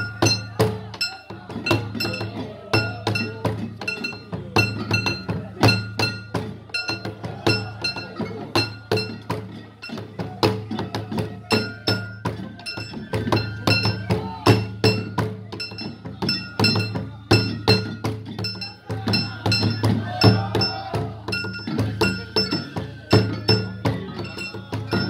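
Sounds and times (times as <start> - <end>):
drums beaten with sticks: 0.0 - 25.0.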